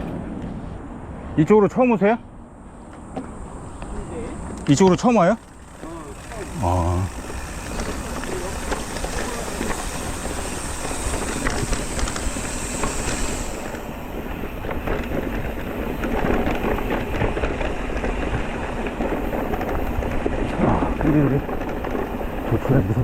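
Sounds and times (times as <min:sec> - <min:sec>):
bike tyres rumbling on trail: 0:02.6 - 0:23.0
bike rattles and clicks: 0:02.8 - 0:23.0.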